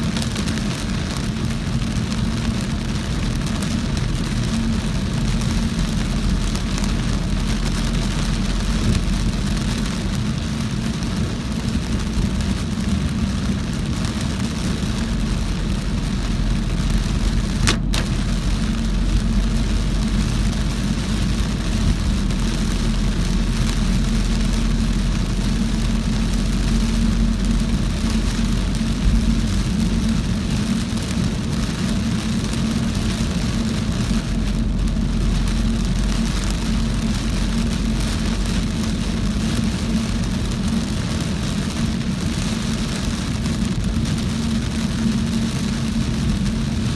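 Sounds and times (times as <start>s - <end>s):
car engine and road rumble: 0.0s - 46.9s
heavy rain on a car: 0.0s - 46.9s.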